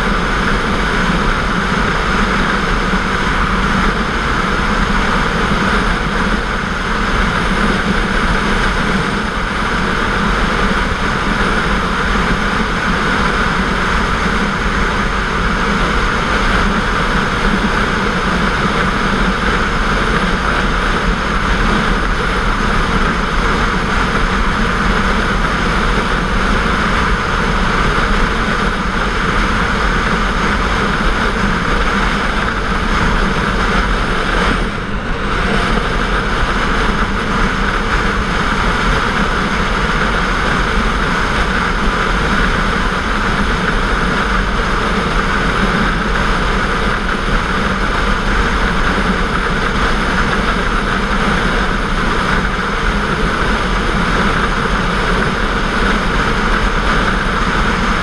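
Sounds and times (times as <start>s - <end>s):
motorcycle engine running: 0.0s - 58.0s
rushing wind noise: 0.0s - 58.0s.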